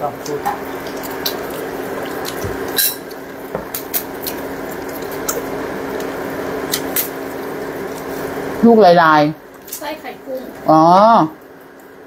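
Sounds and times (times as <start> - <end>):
induction cooker buzzing hum: 0.0 - 12.0.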